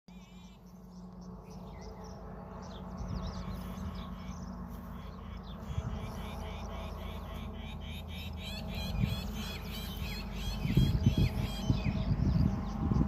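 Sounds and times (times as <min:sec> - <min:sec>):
low steady rumble: 0:00.1 - 0:13.0
small birds chirping: 0:00.1 - 0:13.0.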